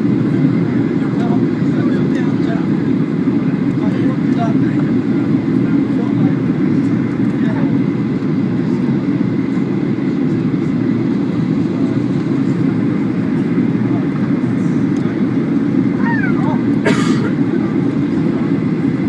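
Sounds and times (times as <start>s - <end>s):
airliner cabin low rumble: 0.0s - 19.0s.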